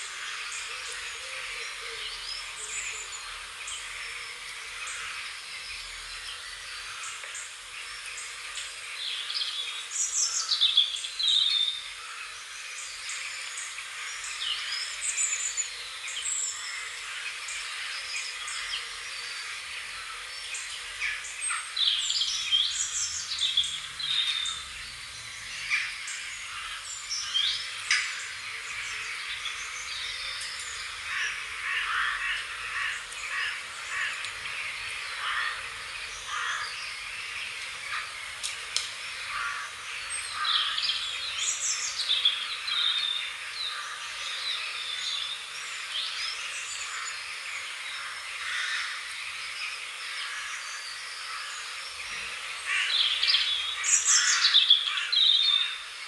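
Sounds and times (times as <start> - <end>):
background hiss: 0.0 - 56.0
wild birds chirping: 0.0 - 56.0.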